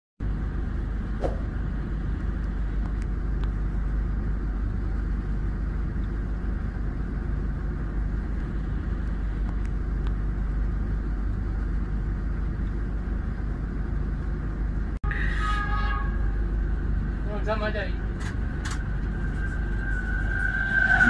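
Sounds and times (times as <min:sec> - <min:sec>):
low rumble of outdoor background: 0:00.2 - 0:21.0.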